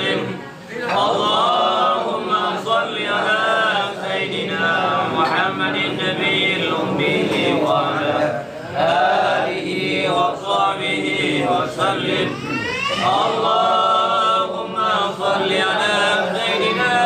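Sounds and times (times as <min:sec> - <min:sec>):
men chanting together: 0:00.0 - 0:12.4, 0:13.0 - 0:17.0.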